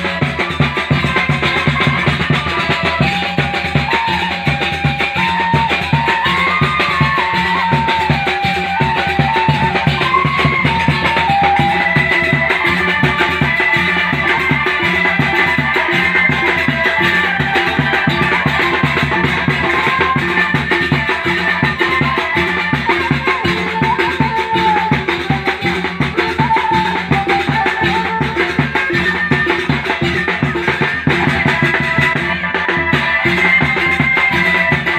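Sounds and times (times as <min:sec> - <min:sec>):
drum beat with percussion: 0:00.0 - 0:34.9
high wavering melody: 0:00.0 - 0:34.9.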